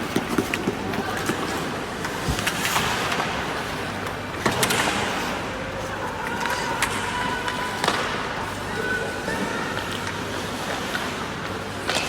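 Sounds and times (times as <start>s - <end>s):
hubbub of distant voices: 0.2s - 12.0s.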